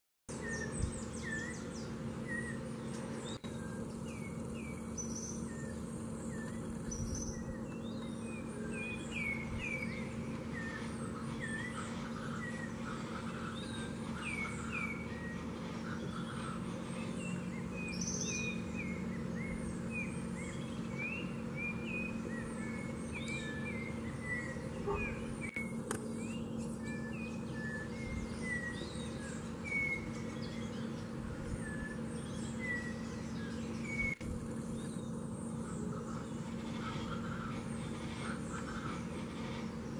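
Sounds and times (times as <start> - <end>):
birds chirping: 0.3 - 39.9
low hum: 0.3 - 39.9.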